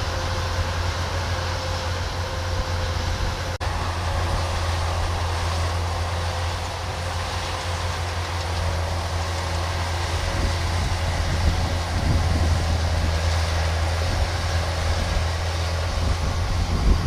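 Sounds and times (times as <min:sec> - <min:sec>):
combine harvester engine hum: 0:00.0 - 0:17.0
machinery rushing: 0:00.0 - 0:17.0.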